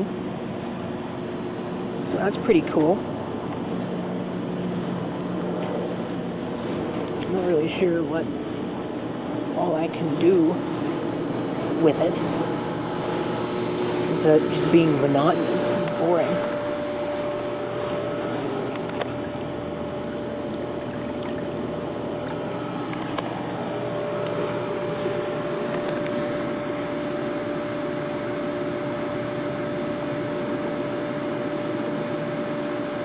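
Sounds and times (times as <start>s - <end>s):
mechanical hum with whine: 0.0s - 33.0s.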